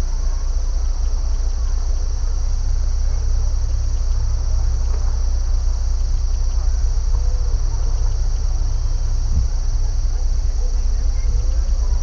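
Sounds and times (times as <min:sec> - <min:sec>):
crickets chirring: 0:00.0 - 0:12.0
steady low rumble: 0:00.0 - 0:12.0.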